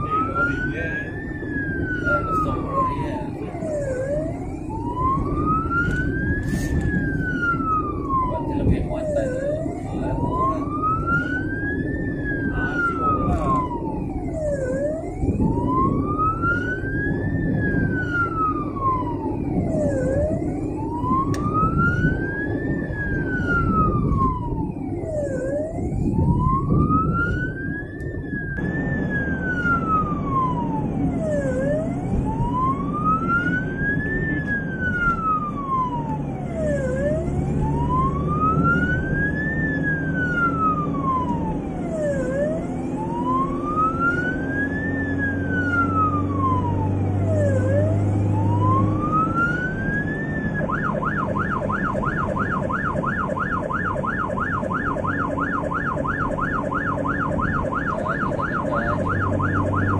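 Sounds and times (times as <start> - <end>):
ambulance siren wailing: 0.0 - 59.9
engine and road rumble: 0.0 - 59.9.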